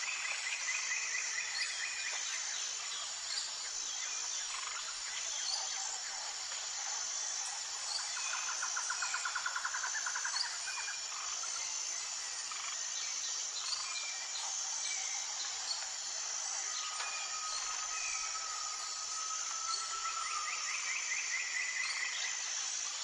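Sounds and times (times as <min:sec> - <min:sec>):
insect chorus: 0:00.0 - 0:23.0
rapid insect trill: 0:00.0 - 0:23.0.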